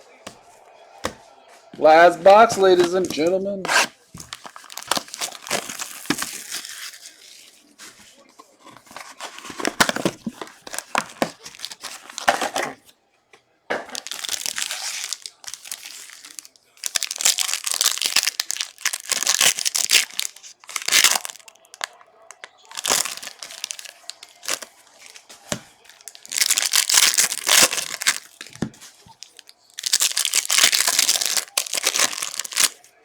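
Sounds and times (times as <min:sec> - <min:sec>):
plastic wrapping crinkling: 0:01.8 - 0:12.8, 0:13.9 - 0:33.0.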